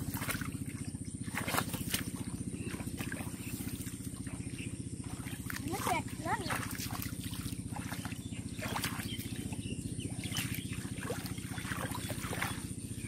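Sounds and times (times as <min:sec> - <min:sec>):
small engine running: 0:00.0 - 0:13.0
splashing of wading feet: 0:00.0 - 0:13.0.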